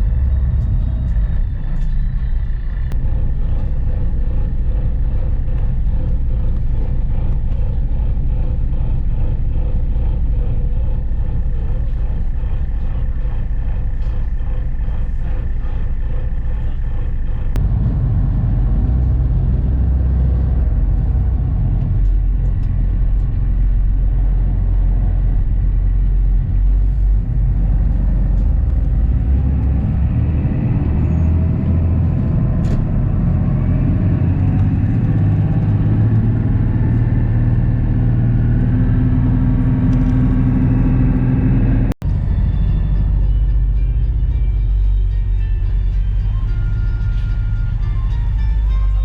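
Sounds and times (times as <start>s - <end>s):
ferry engine droning: 0.0s - 49.0s.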